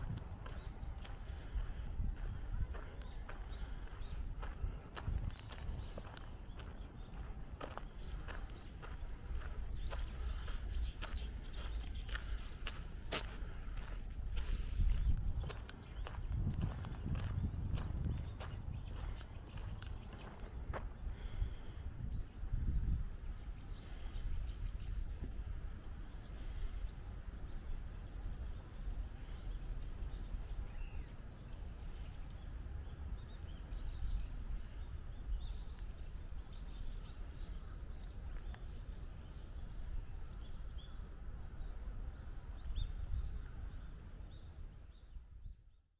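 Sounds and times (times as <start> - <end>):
steady low rumble: 0.0 - 45.7
small birds chirping: 0.0 - 45.9.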